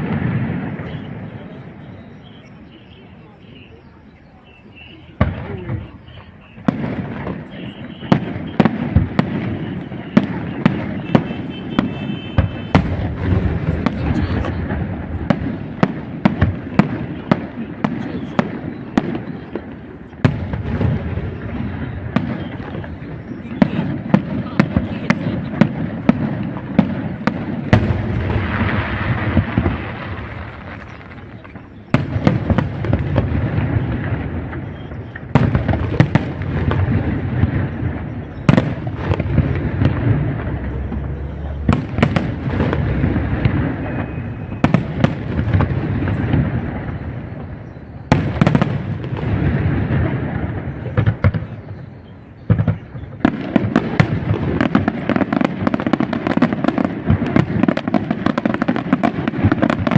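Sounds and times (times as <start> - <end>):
firework bursts banging: 0.0 - 2.6, 4.8 - 59.9
low rumble and crackle: 5.2 - 59.9.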